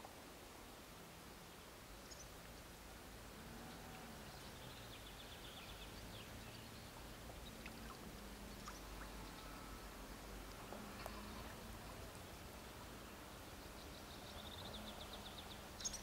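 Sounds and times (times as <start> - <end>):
river water hiss and rumble: 0.0 - 16.0.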